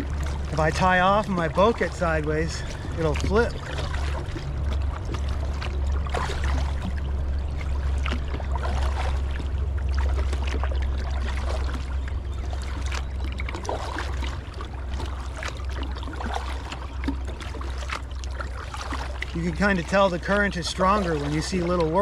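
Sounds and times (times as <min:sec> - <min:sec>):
steady low rumble: 0:00.0 - 0:22.0
water splashing around kayak hull: 0:00.0 - 0:22.0.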